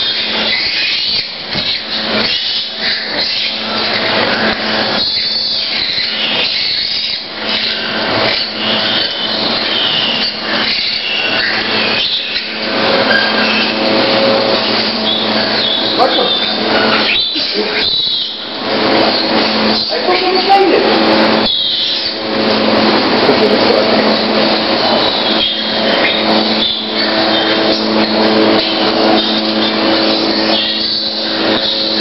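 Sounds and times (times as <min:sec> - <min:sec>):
mechanical hum: 0:00.0 - 0:32.0
piglets squealing: 0:00.0 - 0:32.0.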